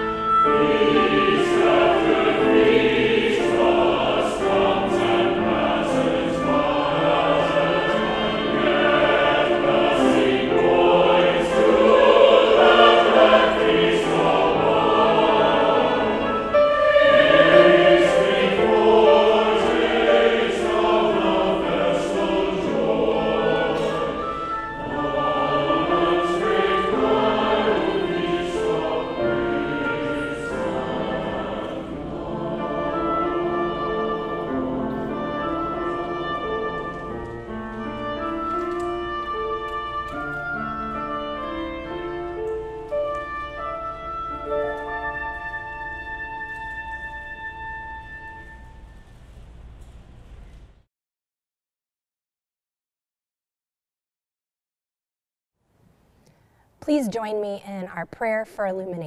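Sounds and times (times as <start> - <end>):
choir singing: 0.0 - 48.6.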